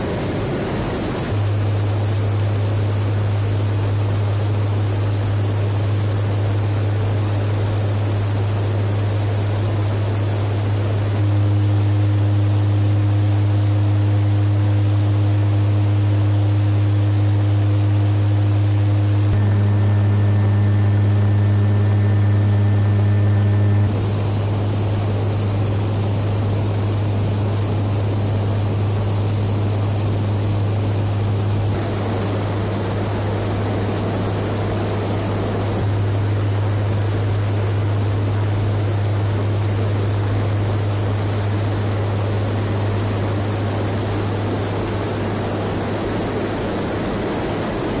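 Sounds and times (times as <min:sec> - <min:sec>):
turboprop aircraft engines droning: 0:00.0 - 0:48.0.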